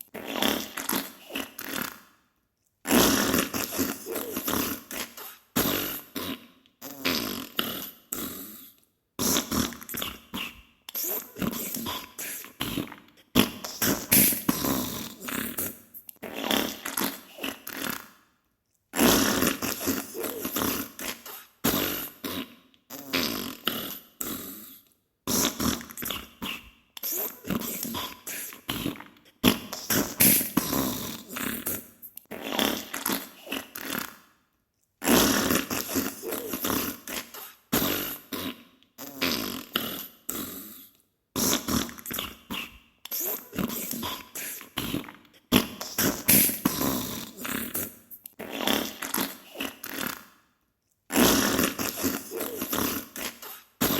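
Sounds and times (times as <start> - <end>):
wet sputtering farts: 0.1 - 2.1, 2.9 - 8.5, 9.2 - 18.1, 19.0 - 24.4, 25.3 - 34.2, 35.0 - 40.6, 41.4 - 50.3, 51.1 - 53.9.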